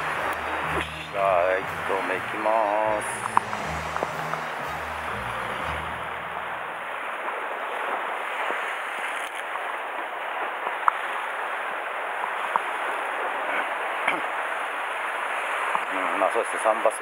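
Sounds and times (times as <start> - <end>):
waves washing against rocks: 0.0 - 16.6.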